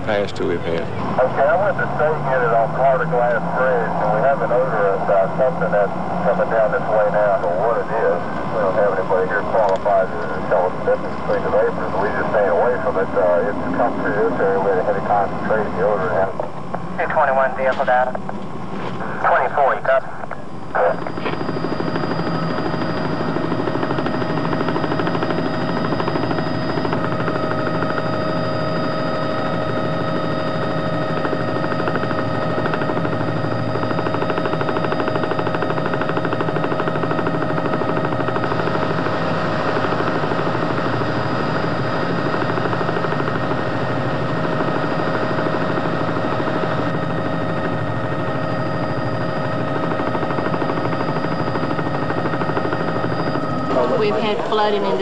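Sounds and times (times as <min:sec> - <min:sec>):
helicopter rotor chop: 0:00.0 - 0:55.0
helicopter whine: 0:00.0 - 0:55.0.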